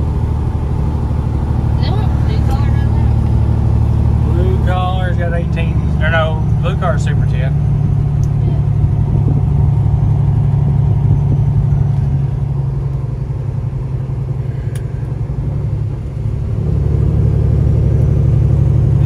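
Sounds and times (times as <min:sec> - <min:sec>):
truck diesel engine drone: 0:00.0 - 0:19.0.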